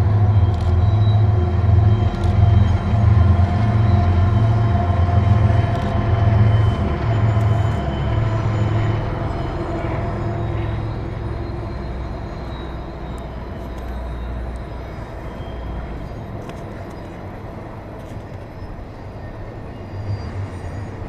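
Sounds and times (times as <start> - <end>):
low drone: 0.0 - 21.0
train wheels rumbling on rail: 0.0 - 21.0.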